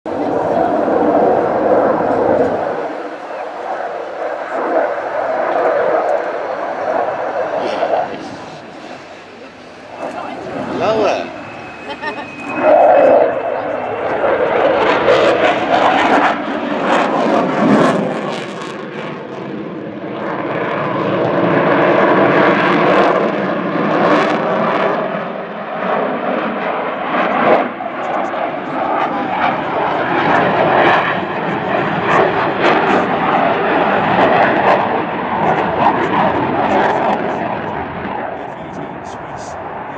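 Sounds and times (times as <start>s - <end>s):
aircraft engine drone: 0.1s - 39.9s.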